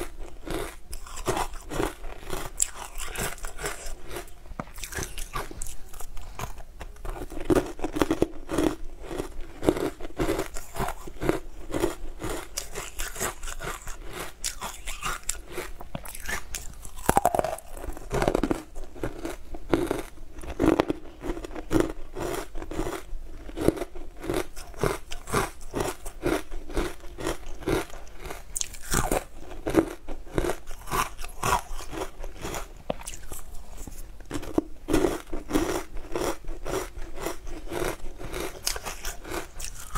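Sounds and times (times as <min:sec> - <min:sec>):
crunchy frozen food chewing: 0:00.0 - 0:39.9.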